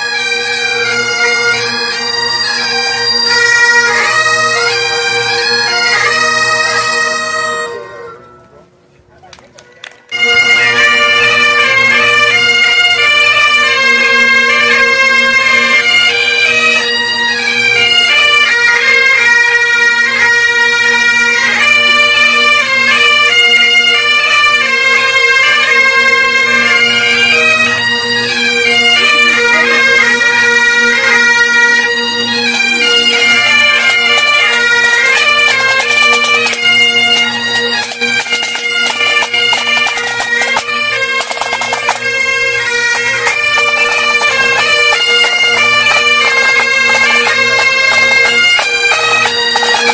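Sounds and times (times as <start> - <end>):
bagpipes playing: 0.0 - 8.6, 9.6 - 49.9.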